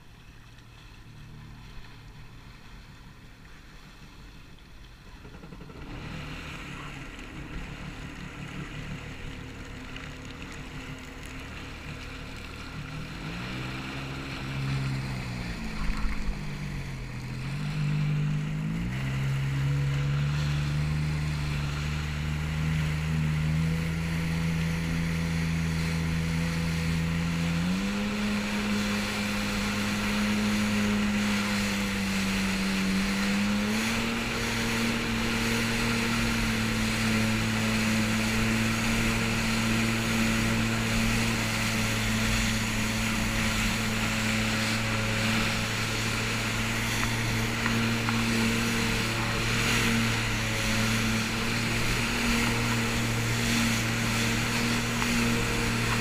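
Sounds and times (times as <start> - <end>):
jet ski engine: 0.0 - 56.0
water wash: 0.0 - 56.0.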